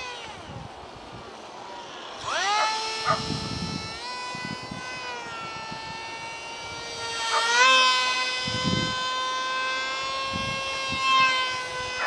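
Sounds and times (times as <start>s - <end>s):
electric motor and propeller whining: 0.0s - 12.0s.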